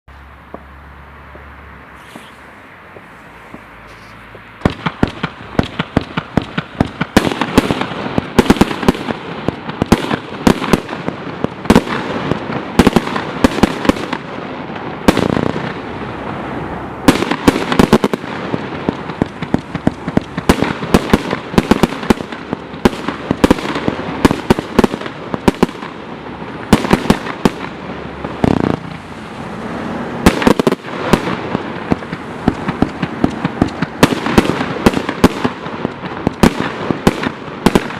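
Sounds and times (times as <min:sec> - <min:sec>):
firework crackle: 0:00.1 - 0:37.9
firework bangs and cracks: 0:01.3 - 0:37.9.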